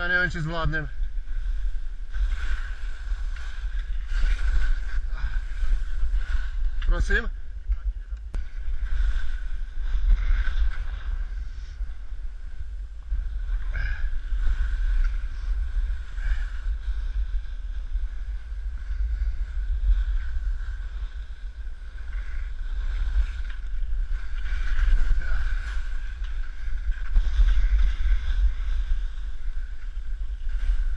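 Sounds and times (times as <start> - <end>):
skis scraping on snow: 0.0 - 7.3, 8.4 - 30.9.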